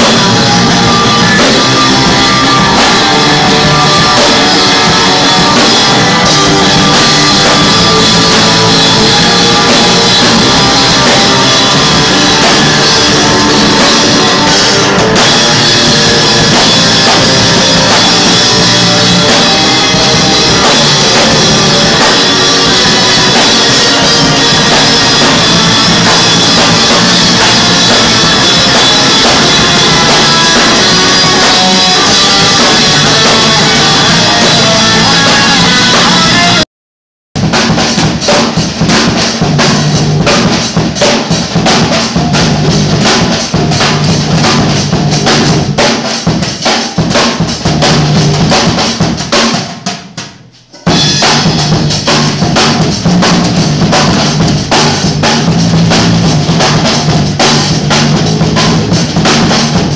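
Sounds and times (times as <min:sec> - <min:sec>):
drum kit hit hard: 0:00.0 - 0:36.6, 0:37.4 - 0:59.9
electric guitars and bass: 0:00.0 - 0:36.6, 0:37.4 - 0:49.6, 0:50.6 - 0:59.9.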